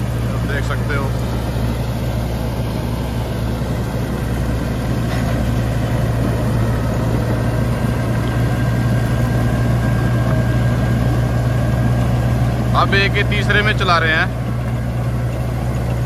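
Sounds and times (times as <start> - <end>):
reaper machinery running: 0.0 - 16.0
tractor diesel engine running: 0.0 - 16.0.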